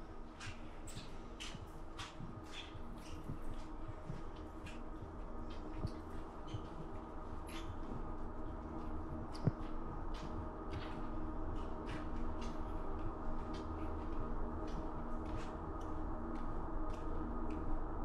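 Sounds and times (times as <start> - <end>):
steady low drone: 0.0 - 18.0.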